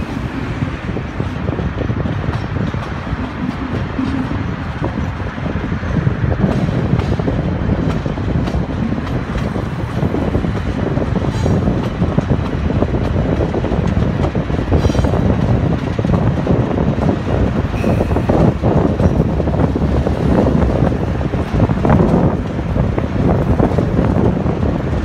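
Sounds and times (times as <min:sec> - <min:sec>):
diesel locomotives rumbling: 0:00.0 - 0:25.0
train rolling noise: 0:00.0 - 0:25.0.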